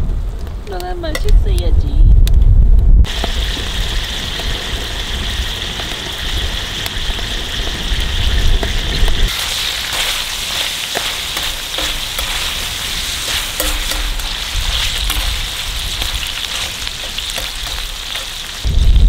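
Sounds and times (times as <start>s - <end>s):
food frying and sizzling: 3.0s - 19.0s.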